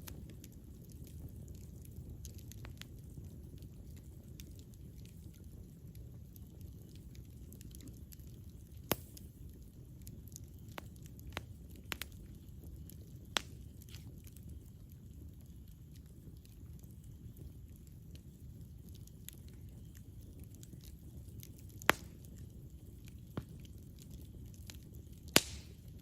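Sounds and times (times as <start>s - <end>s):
burning wood crackling and popping: 0.0s - 26.0s
campfire rumble: 0.0s - 26.0s.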